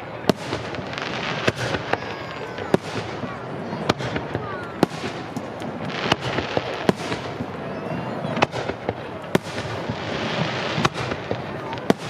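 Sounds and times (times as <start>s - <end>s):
fireworks bangs: 0.0s - 12.0s
fireworks crackle: 0.0s - 12.0s.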